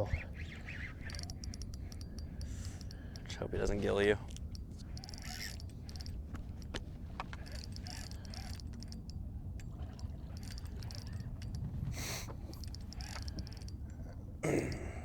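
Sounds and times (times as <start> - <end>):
fishing reel clicking: 0.0 - 14.8
wind and water rumble: 0.0 - 15.0.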